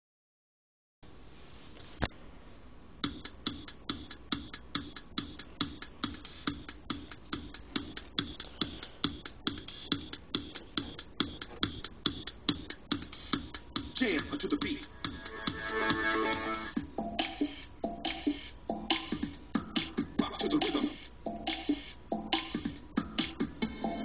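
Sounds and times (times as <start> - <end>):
electronic drum loop: 3.0 - 24.0.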